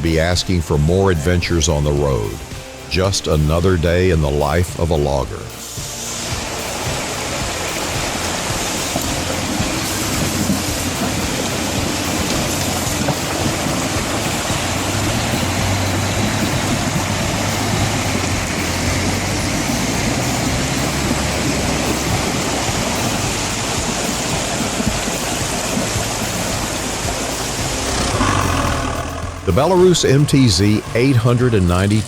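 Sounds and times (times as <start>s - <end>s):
vehicle engine running low: 0.0s - 32.0s
loud rushing noise: 5.3s - 32.0s.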